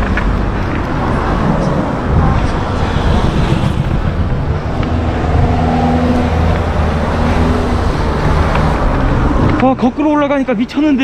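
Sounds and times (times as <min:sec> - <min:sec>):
wind rumbling over microphone: 0:00.0 - 0:09.6.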